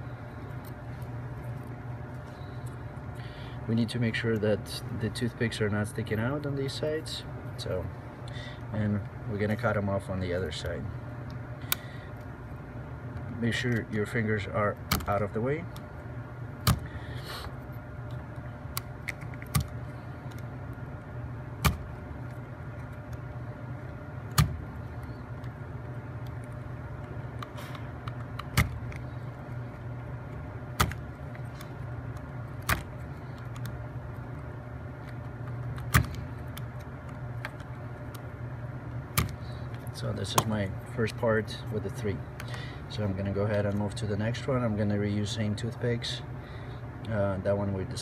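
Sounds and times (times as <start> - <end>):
steady low background hum: 0.0 - 48.0.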